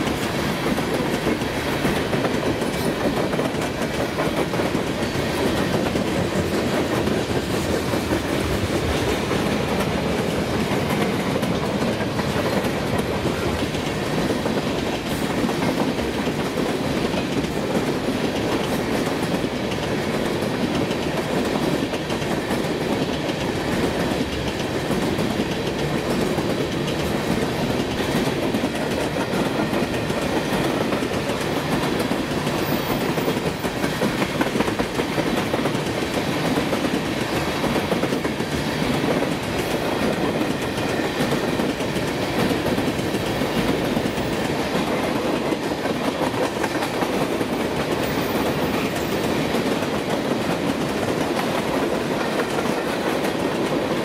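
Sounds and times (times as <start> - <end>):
clickety-clack over rail joints: 0.0 - 54.0
freight train wheels on rails: 0.0 - 54.0.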